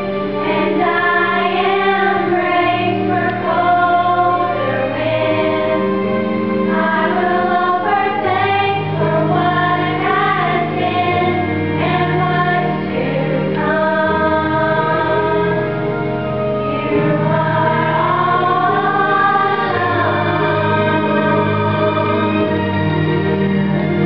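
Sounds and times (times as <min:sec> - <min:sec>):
low sustained accompaniment: 0:00.0 - 0:24.0
women's choir singing gospel: 0:00.4 - 0:15.9, 0:16.6 - 0:22.6.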